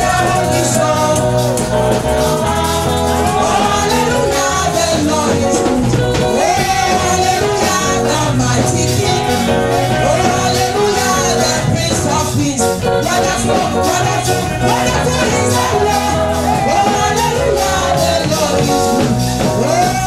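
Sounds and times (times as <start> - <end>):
electric band playing: 0.0 - 20.0
gospel singers on microphones: 0.0 - 20.0.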